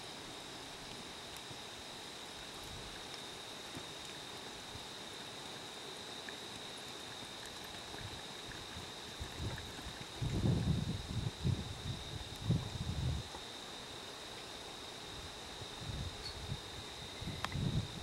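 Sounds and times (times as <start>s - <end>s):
thin high whine: 0.0s - 18.0s.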